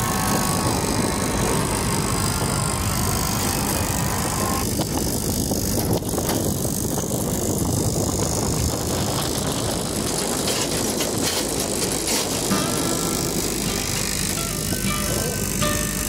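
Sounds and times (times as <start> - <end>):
motorcycle engine: 0.0 - 16.0
wind buffeting: 0.0 - 16.0.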